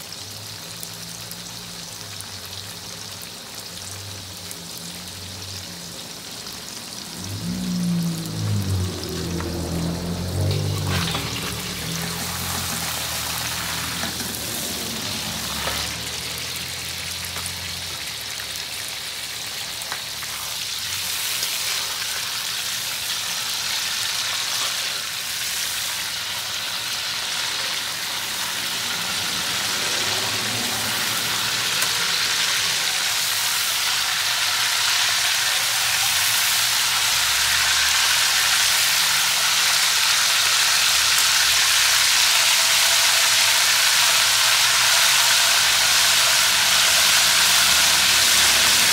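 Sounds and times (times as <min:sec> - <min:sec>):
oil sizzling in a wok: 0:00.0 - 0:48.9.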